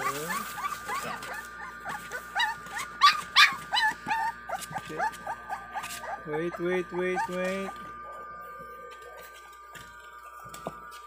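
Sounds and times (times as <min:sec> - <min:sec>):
puppies whining and yelping: 0:00.0 - 0:10.9.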